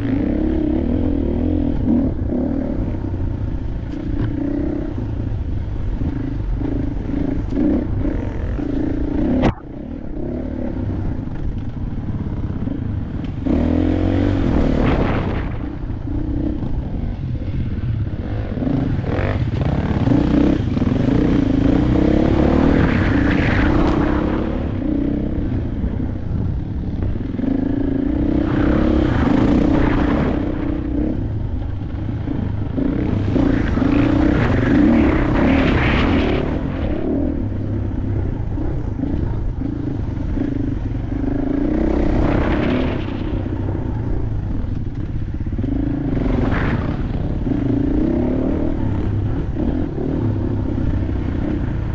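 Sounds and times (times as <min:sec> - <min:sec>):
wind noise: 0:00.0 - 0:51.9
dirt bike engine revving: 0:05.9 - 0:17.2, 0:18.1 - 0:26.1, 0:27.1 - 0:44.2, 0:45.5 - 0:51.9.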